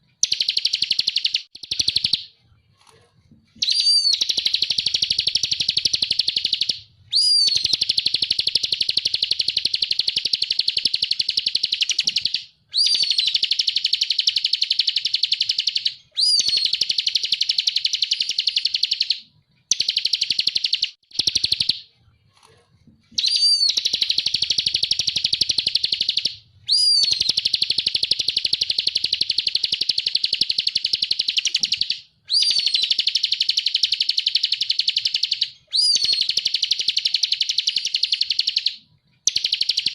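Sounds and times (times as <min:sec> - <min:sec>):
bird rattling trill song: 0:00.1 - 0:02.3, 0:03.5 - 0:21.9, 0:23.1 - 0:39.9.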